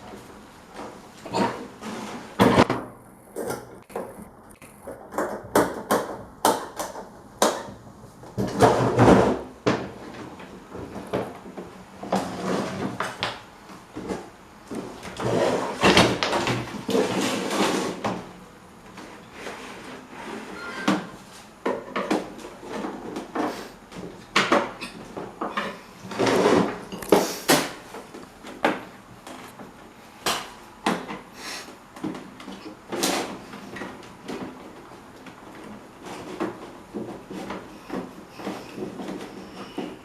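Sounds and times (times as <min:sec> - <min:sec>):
fan parts knocking and clicking: 0:02.4 - 0:19.2, 0:21.6 - 0:31.3, 0:31.9 - 0:40.0.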